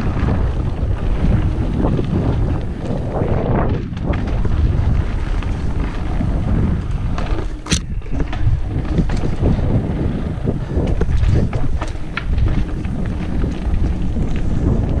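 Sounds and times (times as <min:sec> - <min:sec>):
mountain bike rattling over trail: 0:00.0 - 0:15.0
wind buffeting microphone: 0:00.0 - 0:15.0.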